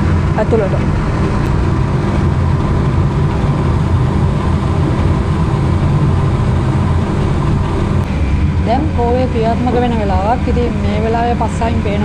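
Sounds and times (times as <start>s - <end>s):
furnace burning with low rumble: 0.0s - 12.0s.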